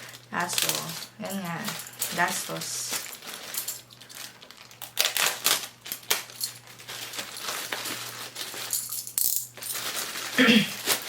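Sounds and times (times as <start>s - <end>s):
low steady hum: 0.0s - 11.0s
plastic package crinkling: 0.0s - 11.0s.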